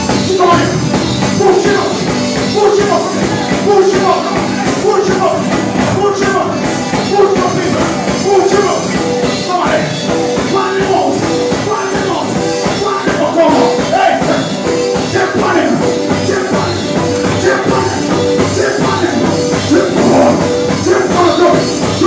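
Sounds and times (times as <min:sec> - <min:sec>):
gospel band playing: 0:00.0 - 0:22.0
steady drum beat: 0:00.0 - 0:22.0.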